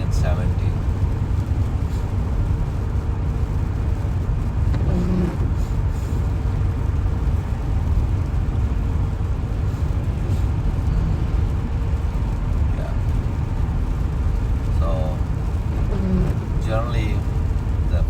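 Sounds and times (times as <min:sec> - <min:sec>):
car road noise in rain: 0:00.0 - 0:18.0.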